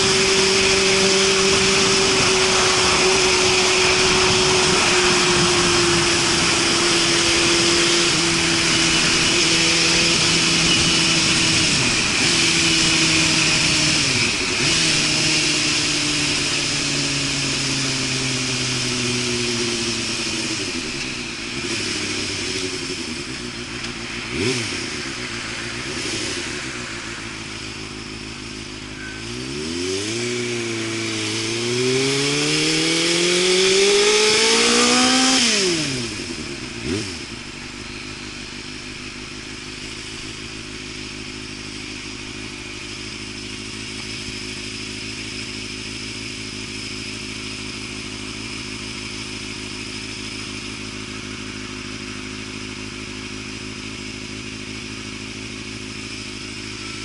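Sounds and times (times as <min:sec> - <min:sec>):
motorcycle engine revving and idling: 0:00.0 - 0:57.0.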